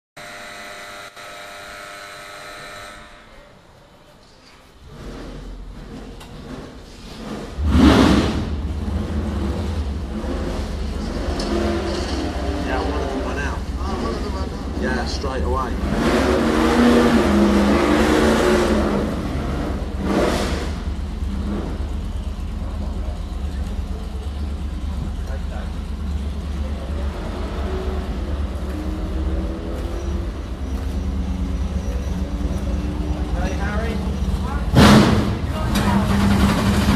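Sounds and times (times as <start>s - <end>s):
car engine idling with deep rumble: 4.8s - 36.9s.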